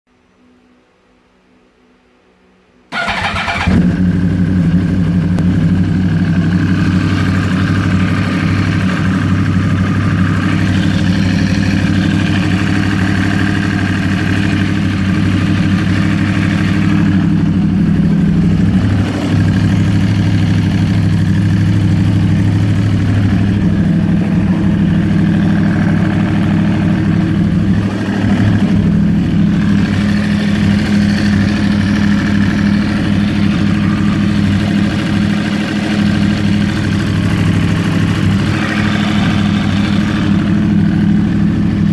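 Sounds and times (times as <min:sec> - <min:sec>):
engine ticking noise: 0:02.9 - 0:41.9
motorcycle engine idling: 0:02.9 - 0:41.9.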